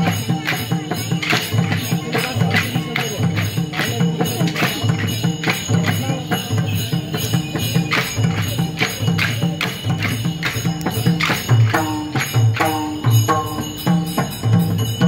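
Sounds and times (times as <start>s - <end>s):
cymbals: 0.0s - 15.0s
drum beat: 0.0s - 15.0s.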